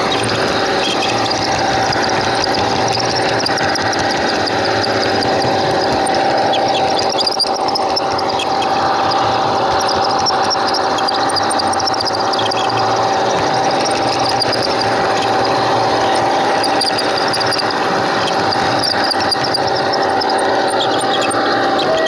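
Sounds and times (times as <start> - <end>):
small electric motor whine: 0.0 - 22.0
wheels rattling on rails: 0.0 - 22.0.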